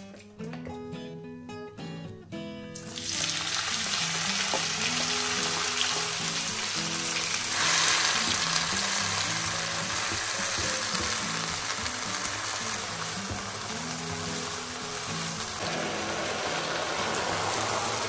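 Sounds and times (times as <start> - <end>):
peppers sizzling in a pan: 2.8 - 18.0.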